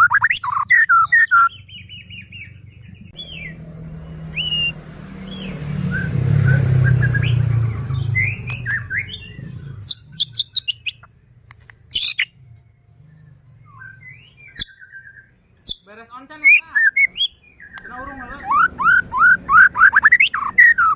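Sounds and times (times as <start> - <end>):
songbird chirping and whistling: 0.0 - 20.9.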